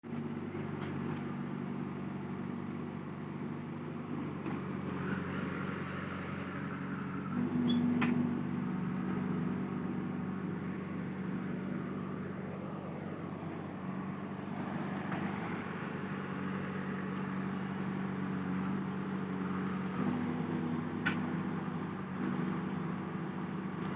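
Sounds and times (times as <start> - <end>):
diesel engine revving: 4.2 - 23.9.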